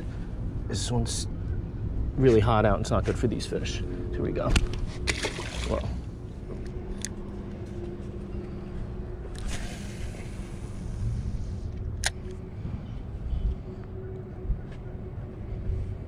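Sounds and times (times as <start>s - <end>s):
motor running with low hum: 3.0s - 16.0s.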